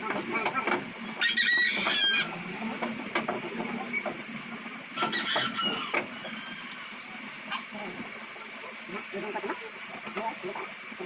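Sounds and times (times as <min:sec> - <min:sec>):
chickens clucking and squawking: 0:00.0 - 0:11.0.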